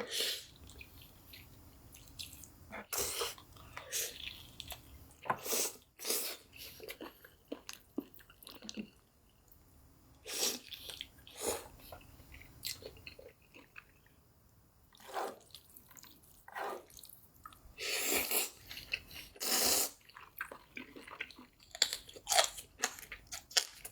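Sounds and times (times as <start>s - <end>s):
chewing and crunching food: 0.5s - 9.6s, 10.6s - 14.2s, 14.9s - 23.9s.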